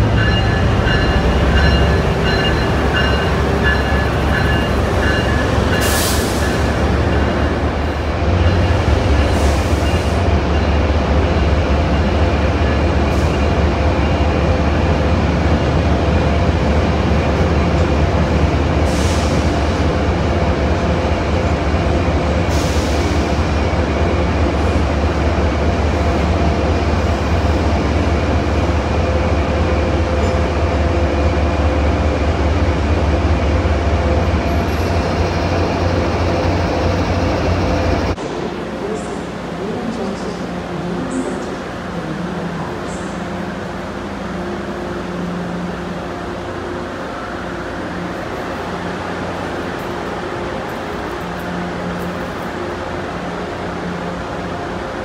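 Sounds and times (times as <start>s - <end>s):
trains rumbling: 0.0s - 55.0s.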